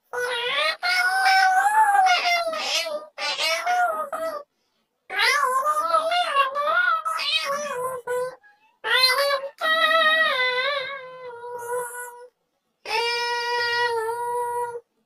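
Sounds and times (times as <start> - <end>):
synthetic cat meows singing melody: 0.1 - 4.5, 5.1 - 14.8.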